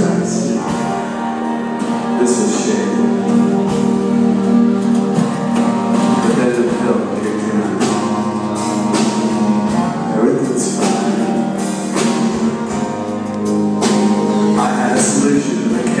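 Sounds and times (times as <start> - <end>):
music with sustained chords: 0.0 - 16.0.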